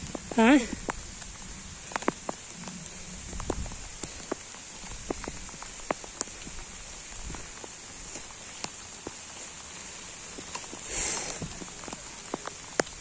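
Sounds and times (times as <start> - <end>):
light rain on foliage: 0.0 - 13.0.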